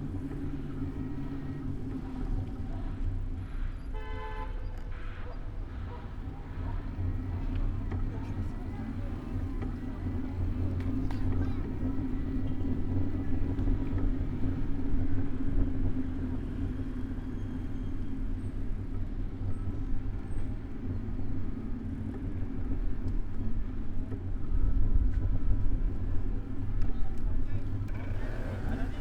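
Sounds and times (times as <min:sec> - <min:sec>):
car engines running: 0:00.0 - 0:04.0, 0:04.8 - 0:29.0
low traffic rumble: 0:00.0 - 0:29.0.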